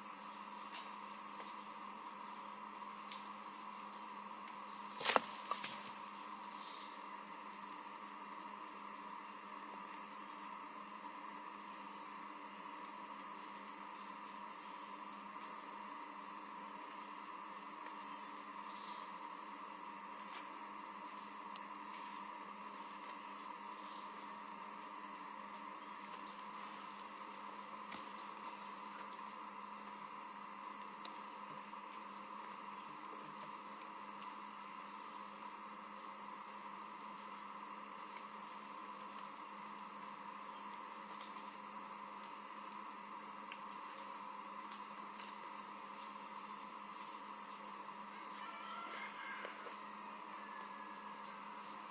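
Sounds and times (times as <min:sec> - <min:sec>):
insect drone: 0:00.0 - 0:51.9.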